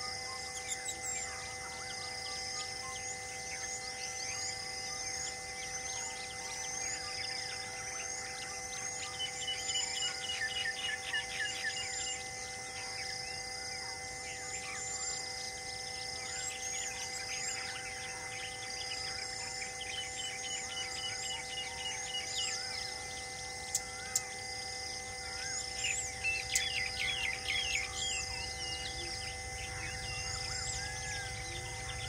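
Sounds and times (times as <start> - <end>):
birds chirping and whistling: 0.0 - 13.5, 14.3 - 32.0
insect drone: 0.0 - 32.0.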